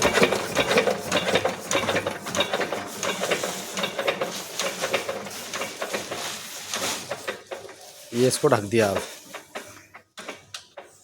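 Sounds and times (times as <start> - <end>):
mechanism clicking rhythmically: 0.0 - 11.0.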